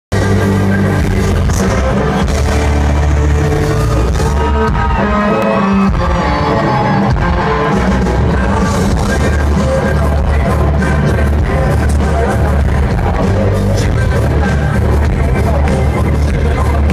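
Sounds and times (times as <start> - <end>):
country-rock band playing loud: 0.1 - 16.9
man singing lead vocal: 0.1 - 16.9.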